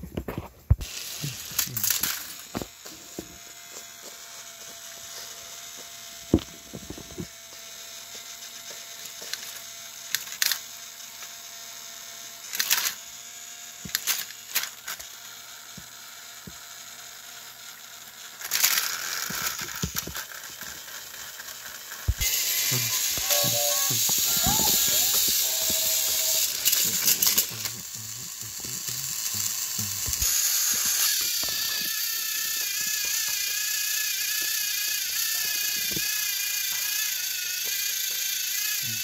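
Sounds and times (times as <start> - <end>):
toy train motors whirring: 0.4 - 39.0.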